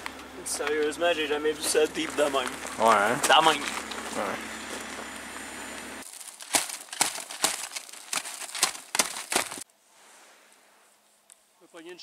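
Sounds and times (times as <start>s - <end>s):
skis and poles crunching on snow: 0.0s - 10.9s.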